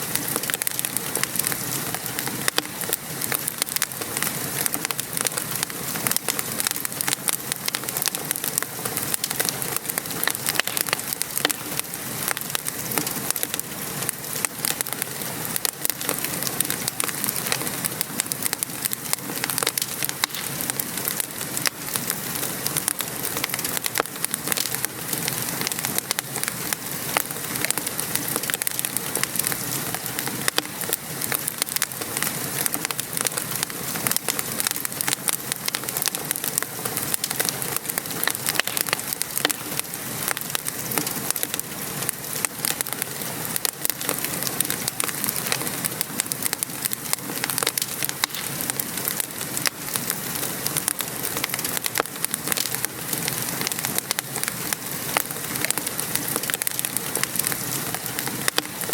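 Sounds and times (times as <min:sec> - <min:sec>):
steady rain: 0:00.0 - 0:58.9
wood fire crackling: 0:00.0 - 0:58.9.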